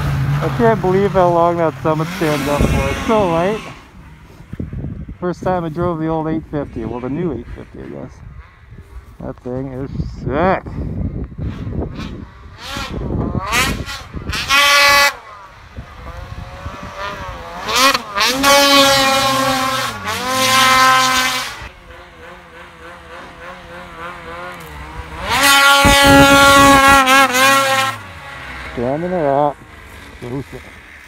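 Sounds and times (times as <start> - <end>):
snowmobile engine revving: 0.0 - 10.8, 11.4 - 31.0.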